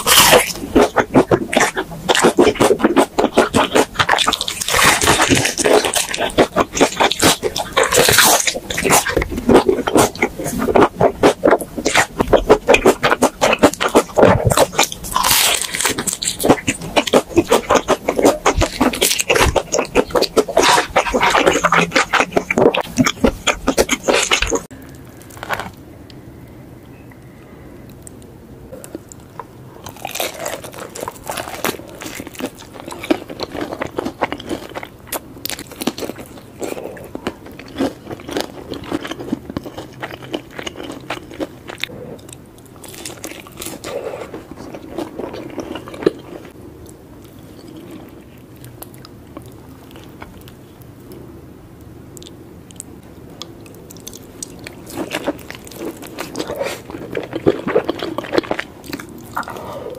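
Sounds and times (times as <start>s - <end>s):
crunchy bites and chewing: 0.0s - 25.8s, 28.7s - 50.6s, 52.2s - 59.9s.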